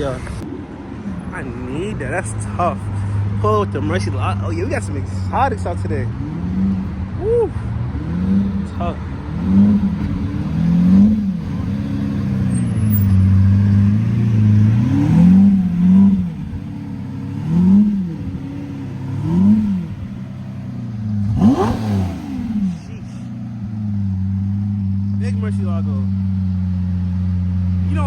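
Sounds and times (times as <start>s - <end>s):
car engine revving in blips: 2.4s - 28.0s.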